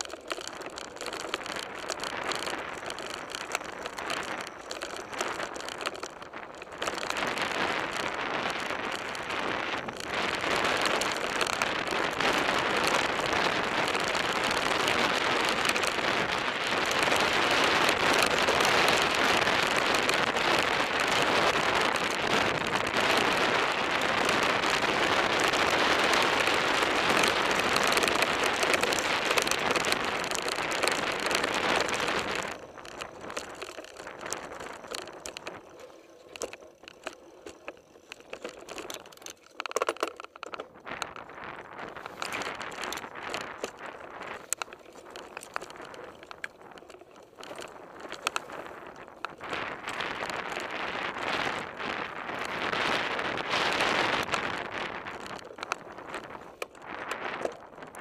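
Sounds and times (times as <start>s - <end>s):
wind on microphone: 0.0s - 39.4s, 40.5s - 58.0s
bike tyres on loose stones: 0.0s - 58.0s
scattered clicks: 0.0s - 58.0s.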